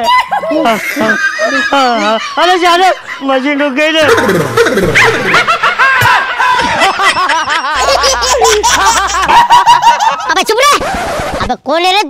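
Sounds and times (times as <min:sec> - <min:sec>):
people laughing: 0:00.0 - 0:10.7.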